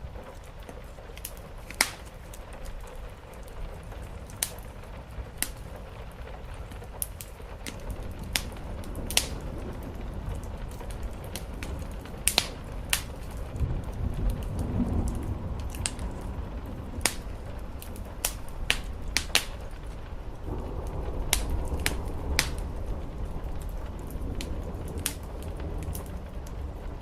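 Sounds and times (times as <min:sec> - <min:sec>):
rain: 0:00.0 - 0:27.0
wood fire crackling and popping: 0:00.0 - 0:27.0.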